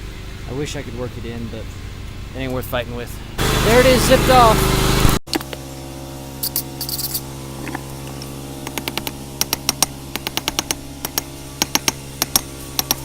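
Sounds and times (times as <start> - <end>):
forge humming: 0.0 - 13.0.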